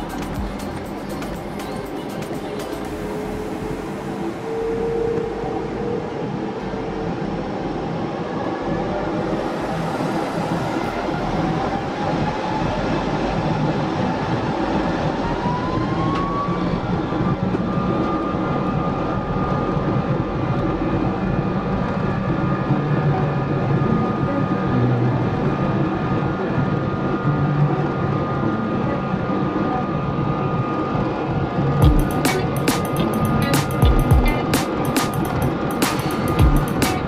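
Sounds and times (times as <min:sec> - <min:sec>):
jet engine rumble: 0:00.0 - 0:37.0
jet engine whine: 0:00.0 - 0:37.0.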